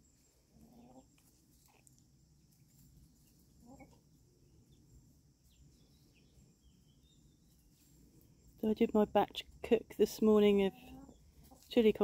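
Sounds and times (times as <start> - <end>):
chickens clucking faintly: 0.0 - 12.0.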